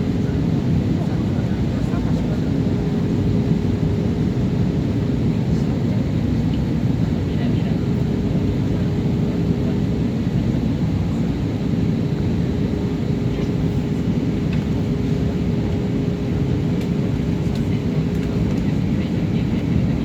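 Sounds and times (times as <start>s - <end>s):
jet airliner engines rumbling: 0.0s - 20.0s.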